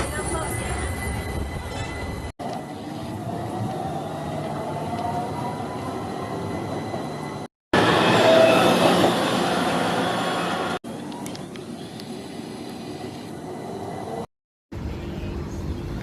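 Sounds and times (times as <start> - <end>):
tram running on rails: 0.0 - 16.0.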